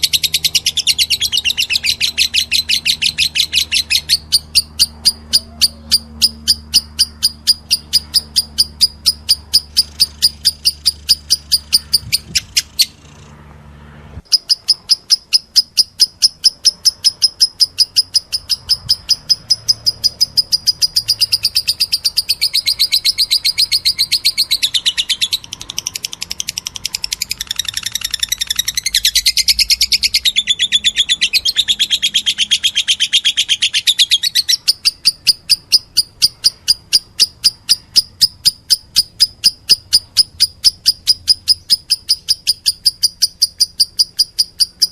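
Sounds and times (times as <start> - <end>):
lovebird begging chirps: 0.0 - 13.3, 14.2 - 44.9.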